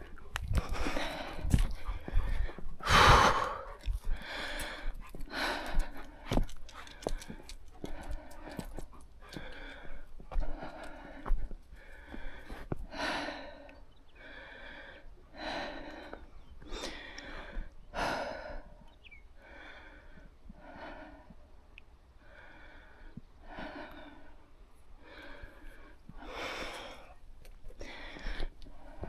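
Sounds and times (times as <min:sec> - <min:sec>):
person breathing heavily: 0:00.0 - 0:21.4, 0:22.2 - 0:29.0.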